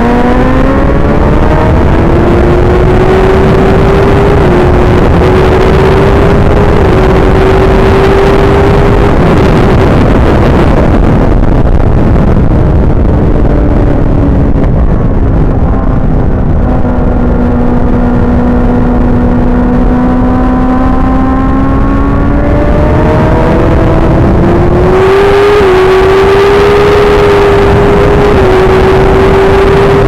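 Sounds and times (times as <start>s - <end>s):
motorcycle engine revving high: 0.0s - 30.0s
wind and road noise: 0.0s - 30.0s.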